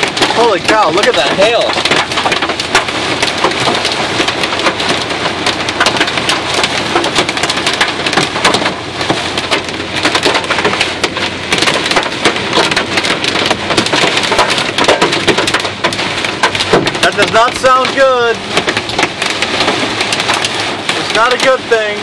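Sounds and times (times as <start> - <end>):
hailstones pelting a car: 0.0 - 22.0.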